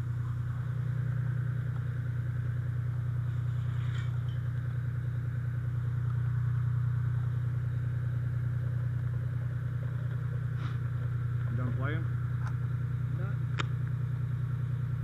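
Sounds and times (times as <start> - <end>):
fire engine droning: 0.0 - 15.0.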